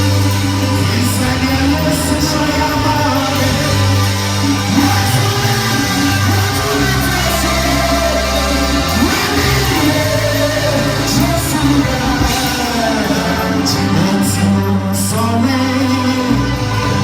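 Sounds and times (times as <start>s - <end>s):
band with sustained bass: 0.0s - 17.0s
person singing gospel: 0.0s - 17.0s.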